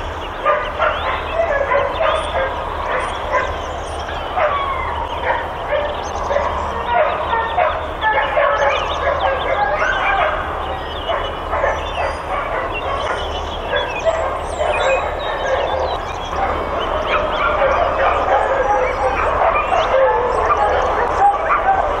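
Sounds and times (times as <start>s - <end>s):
many dogs barking: 0.0s - 22.0s.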